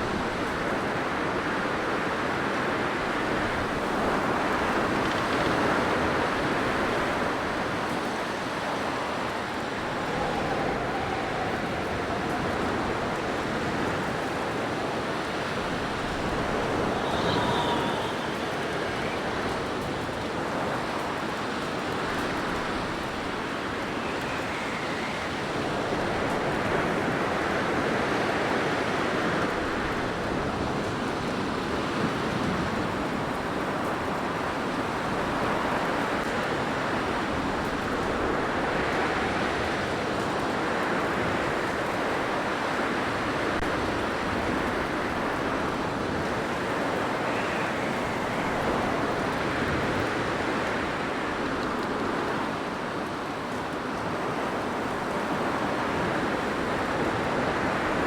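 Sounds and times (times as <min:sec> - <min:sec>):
faint wind whistle: 0:00.0 - 0:52.4
blizzard wind gusting: 0:00.0 - 0:53.5.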